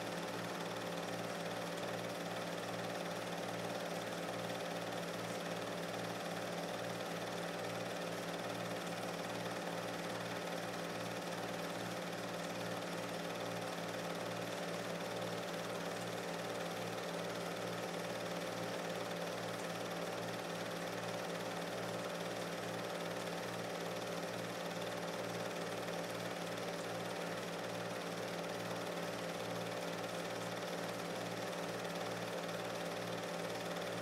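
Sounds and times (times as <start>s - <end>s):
film projector running: 0.0s - 34.0s.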